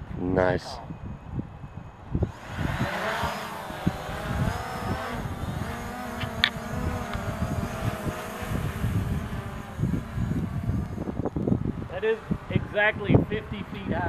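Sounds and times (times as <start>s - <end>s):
wind buffeting microphone: 0.0s - 14.0s
drone propellers whining: 1.0s - 13.2s.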